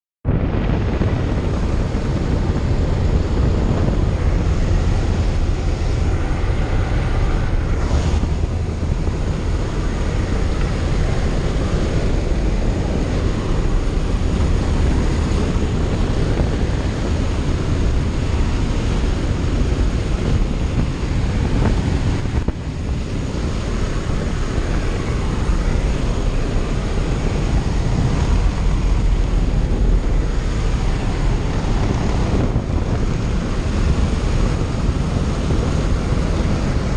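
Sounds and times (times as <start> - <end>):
slipstream and engine noise: 0.2 - 36.9
wind buffeting microphone: 0.2 - 36.9.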